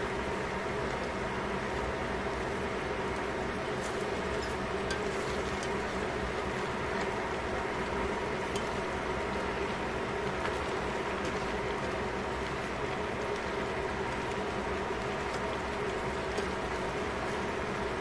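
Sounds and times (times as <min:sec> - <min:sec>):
liquid bubbling in a pot: 0:00.0 - 0:18.0.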